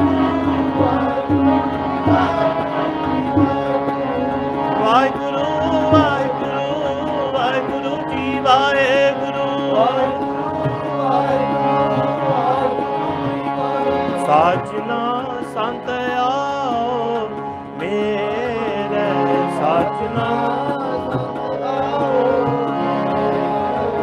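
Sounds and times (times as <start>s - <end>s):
harmonium chords: 0.0s - 24.0s
tabla: 0.0s - 24.0s
wordless sung melody: 0.0s - 24.0s.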